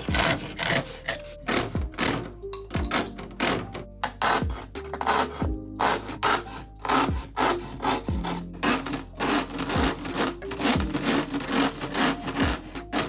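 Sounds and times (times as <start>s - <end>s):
hand saw cutting wood: 0.0s - 2.3s, 2.9s - 13.0s.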